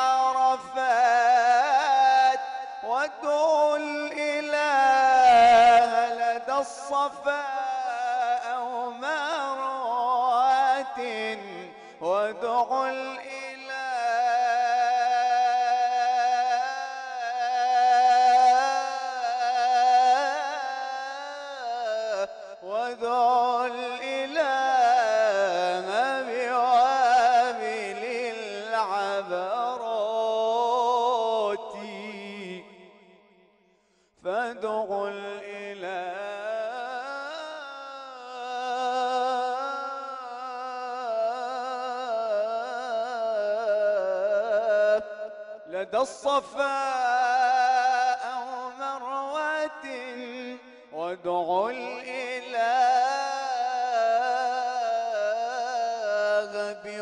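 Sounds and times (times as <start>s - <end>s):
man singing a long note: 0.0s - 33.2s, 34.2s - 57.0s.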